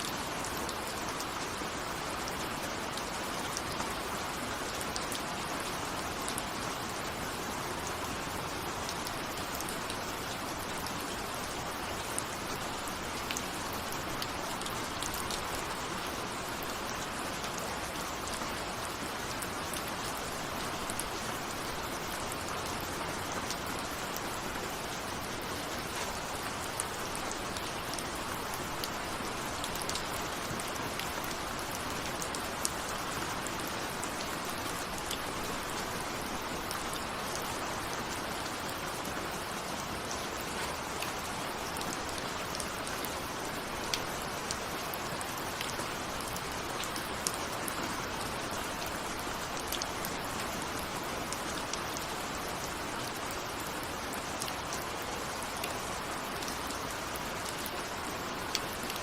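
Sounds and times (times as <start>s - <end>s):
raindrops on a window: 0.0s - 59.0s.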